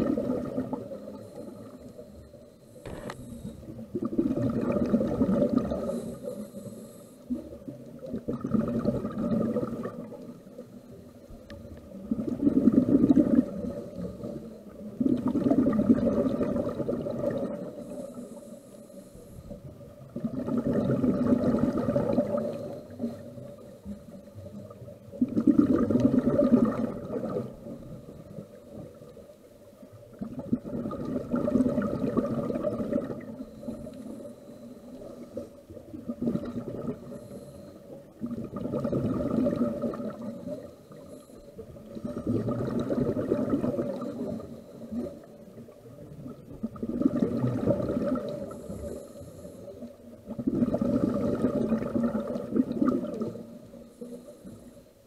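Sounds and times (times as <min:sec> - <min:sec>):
diver exhaling bubbles: 0:00.0 - 0:01.8, 0:02.8 - 0:06.6, 0:07.3 - 0:10.6, 0:11.9 - 0:18.2, 0:20.0 - 0:23.6, 0:24.7 - 0:28.9, 0:30.1 - 0:34.2, 0:35.1 - 0:37.5, 0:38.2 - 0:41.0, 0:41.8 - 0:54.6.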